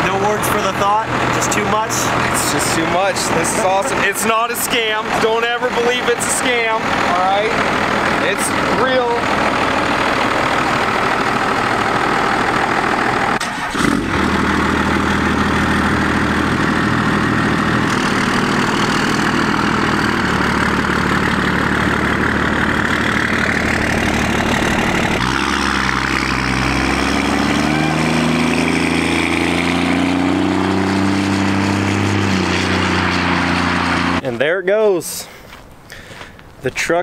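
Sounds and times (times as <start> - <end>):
diesel engine running: 0.0 - 34.2.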